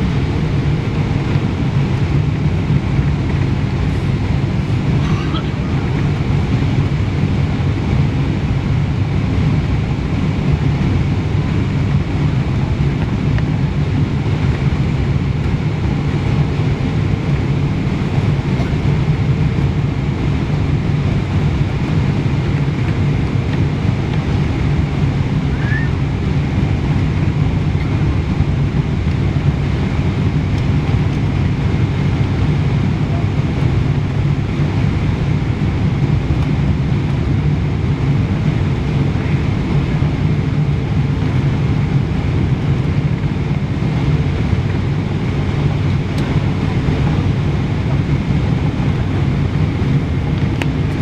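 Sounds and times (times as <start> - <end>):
jet engine and airflow rumble: 0.0 - 51.0.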